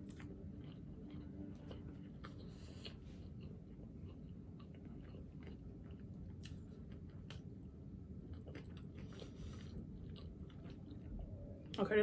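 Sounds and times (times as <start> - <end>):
person chewing food: 0.0 - 11.8
low hum: 0.0 - 12.0.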